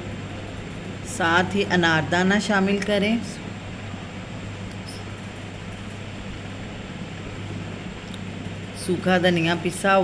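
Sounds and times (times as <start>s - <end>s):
low hum with faint hiss: 0.0s - 10.0s.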